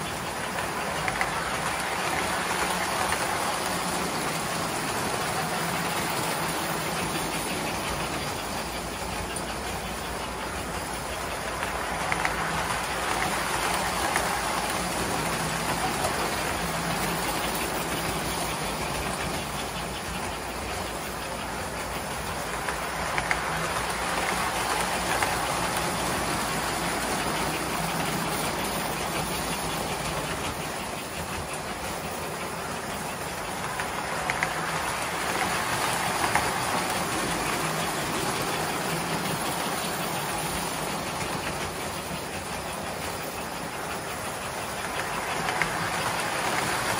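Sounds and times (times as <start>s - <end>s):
toy train motors whirring: 0.0s - 46.9s.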